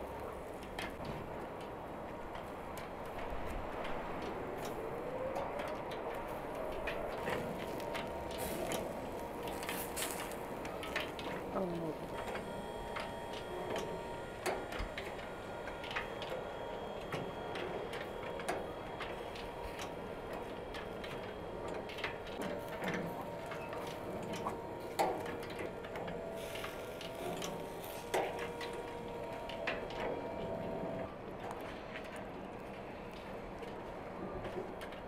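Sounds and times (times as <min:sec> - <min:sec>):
grill motor hum: 0:00.0 - 0:35.0.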